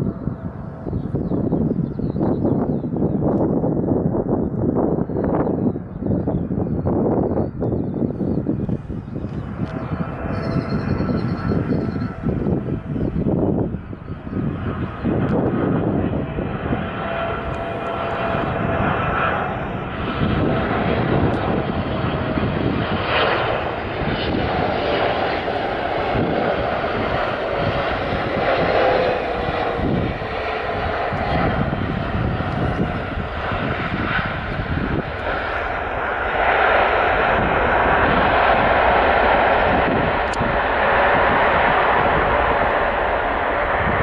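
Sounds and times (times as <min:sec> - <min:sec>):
jet engine whine: 0:00.0 - 0:44.0
jet engines running: 0:00.0 - 0:44.0.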